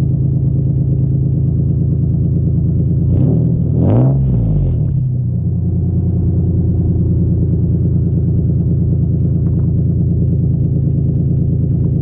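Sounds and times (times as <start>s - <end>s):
car engine idling: 0.0s - 3.8s, 4.5s - 12.0s.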